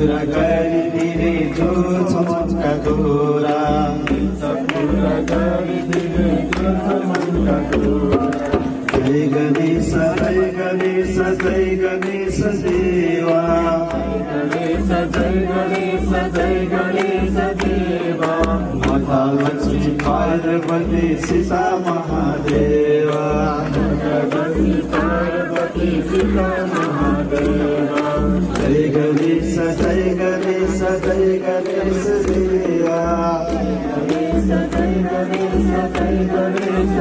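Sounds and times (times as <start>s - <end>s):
low steady beat: 0.0s - 37.0s
voices singing devotional song: 0.0s - 37.0s.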